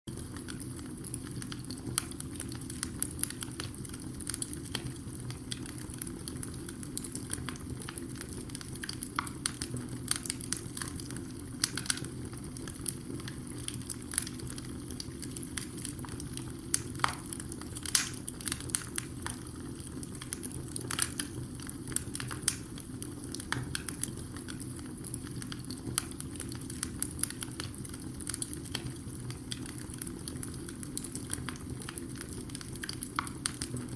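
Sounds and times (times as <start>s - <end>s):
wood fire crackling and popping: 0.1s - 33.9s.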